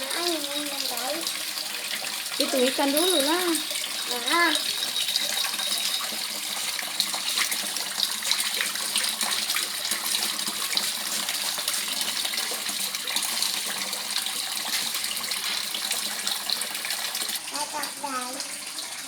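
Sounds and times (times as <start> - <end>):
pond water splashing and trickling: 0.0 - 19.0.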